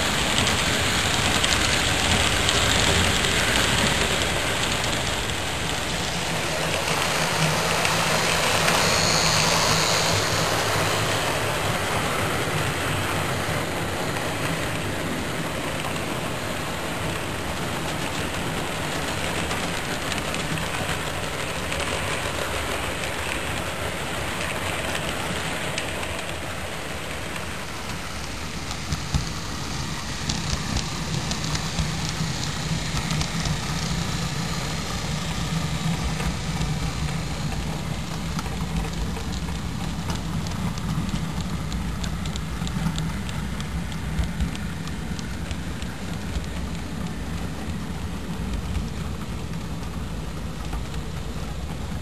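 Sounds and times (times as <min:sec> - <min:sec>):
model train rumbling: 0:00.0 - 0:52.0
wheels clicking on rails: 0:00.0 - 0:52.0.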